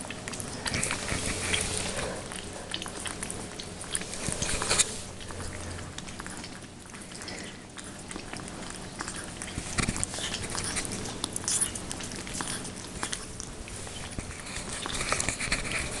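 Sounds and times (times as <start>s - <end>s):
ferrets lapping and slurping: 0.0s - 16.0s.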